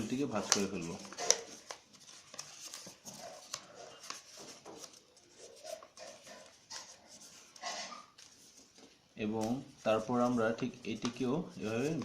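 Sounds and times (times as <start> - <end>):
paper crackles: 0.0 - 12.0
paper crinkling and rustling: 0.0 - 12.0.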